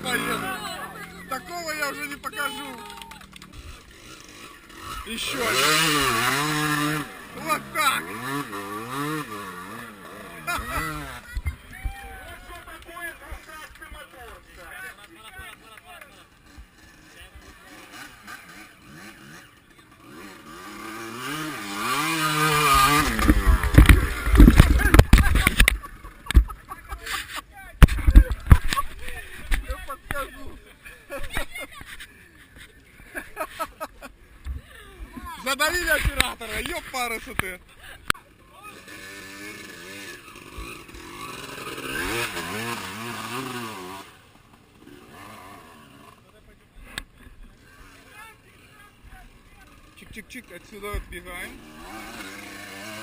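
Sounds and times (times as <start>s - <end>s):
motorcycle engine revving: 0.0s - 11.6s, 16.3s - 30.6s, 35.4s - 53.0s.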